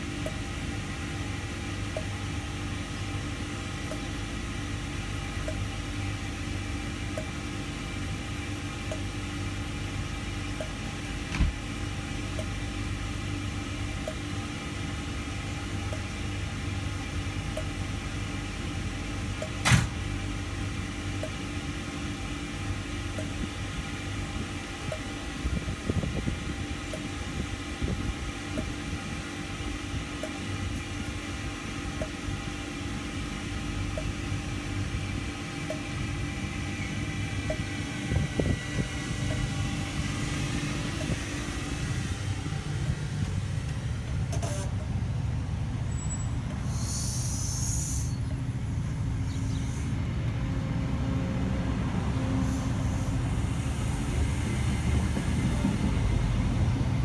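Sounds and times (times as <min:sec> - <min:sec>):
diesel train engine idling: 0:00.0 - 0:57.0.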